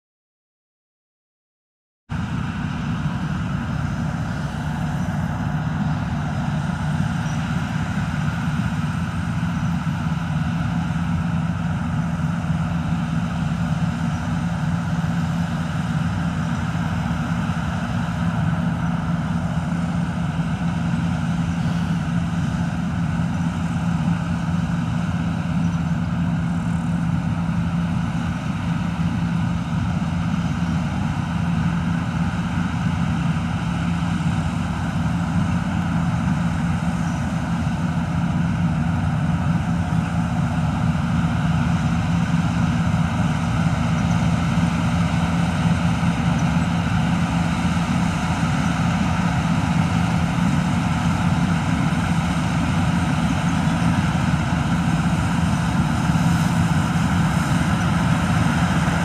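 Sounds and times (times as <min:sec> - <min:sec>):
combine harvester drone: 0:02.1 - 0:59.0.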